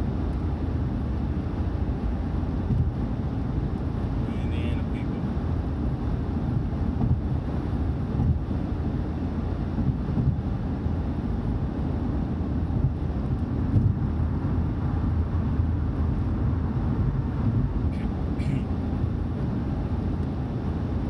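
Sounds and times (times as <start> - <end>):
car cabin road and engine noise: 0.0 - 21.0.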